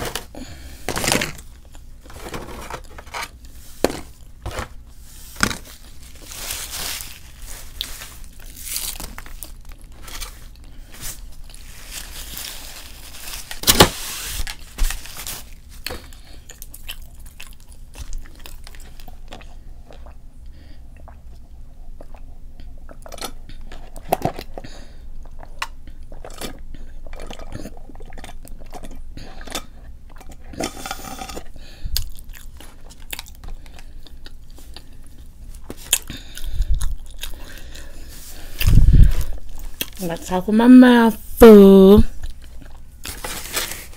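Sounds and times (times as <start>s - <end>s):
person chewing crunchy food: 0.0s - 13.5s, 14.6s - 40.0s, 42.1s - 43.9s.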